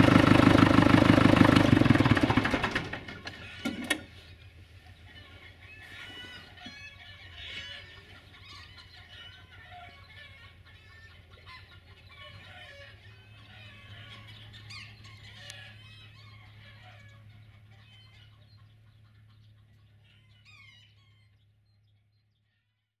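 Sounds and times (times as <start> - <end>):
chickens clucking: 0.0 - 21.4.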